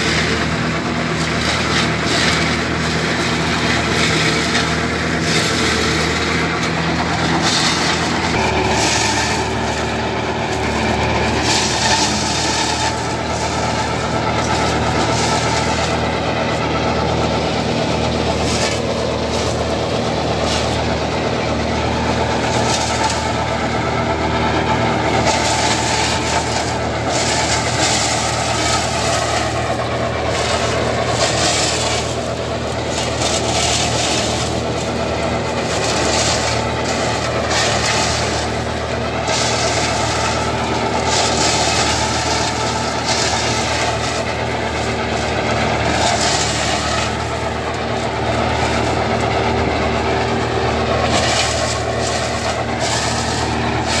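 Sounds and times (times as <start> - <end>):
shredder chopping plant stalks: 0.0 - 54.0
tractor diesel engine running: 0.0 - 54.0.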